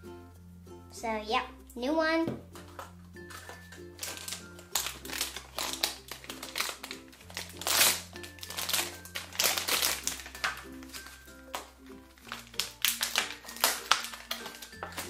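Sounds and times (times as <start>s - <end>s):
light background music: 0.0s - 15.0s
foil packaging crinkling and tearing: 2.7s - 15.0s.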